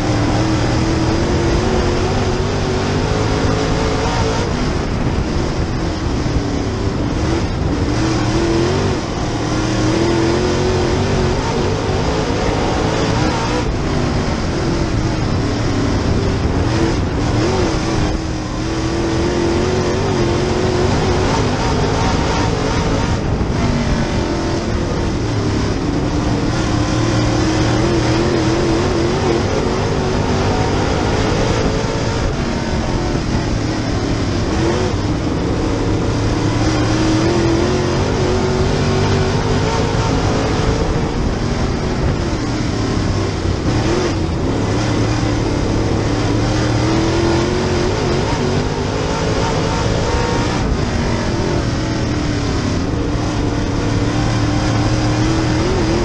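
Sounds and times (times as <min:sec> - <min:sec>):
race car engine: 0:00.0 - 0:56.0
wind and mechanical noise: 0:00.0 - 0:56.0.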